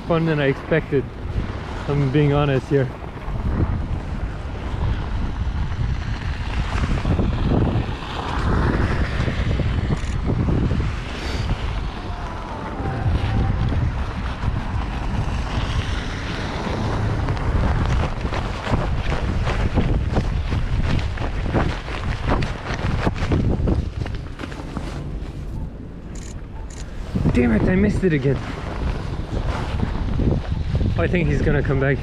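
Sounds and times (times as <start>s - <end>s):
blizzard wind buffeting microphone: 0.0s - 32.0s.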